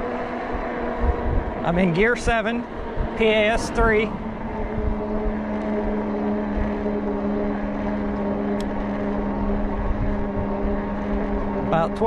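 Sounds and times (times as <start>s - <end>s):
electric bike motor whining: 0.0s - 12.0s
wind rumbling on microphone: 0.0s - 12.0s.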